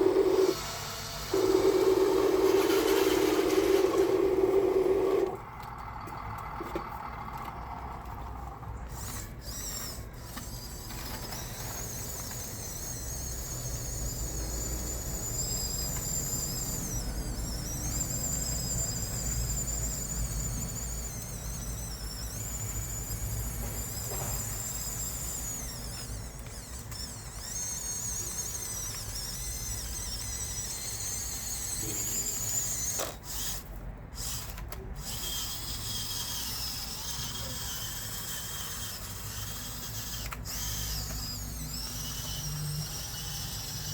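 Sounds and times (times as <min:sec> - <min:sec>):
electric motors and gearboxes whining: 0:00.0 - 0:43.9.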